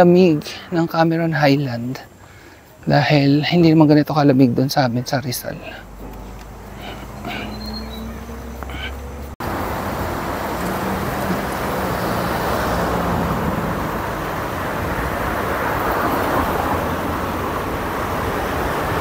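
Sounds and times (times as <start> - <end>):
cars passing on road: 0.0 - 19.0.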